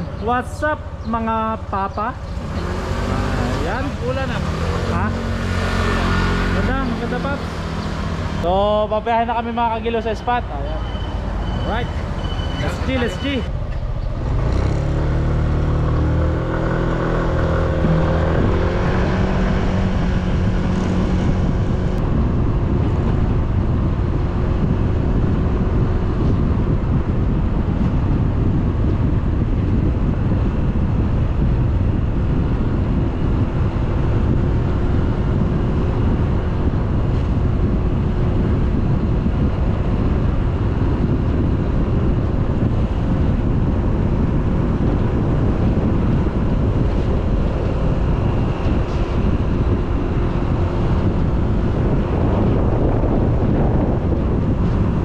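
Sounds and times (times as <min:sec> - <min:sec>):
wind rumble on microphone: 0:00.0 - 0:10.6, 0:11.2 - 0:55.0
vehicle engine droning: 0:00.0 - 0:55.0.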